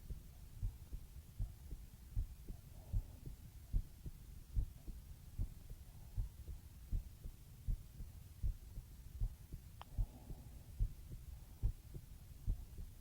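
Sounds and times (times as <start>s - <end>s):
heartbeat thumps: 0.0s - 13.0s.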